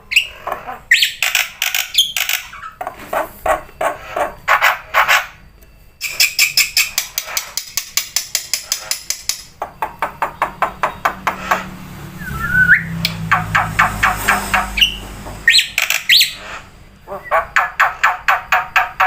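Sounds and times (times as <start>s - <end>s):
songbird chirping: 0.0s - 7.1s, 9.3s - 19.0s.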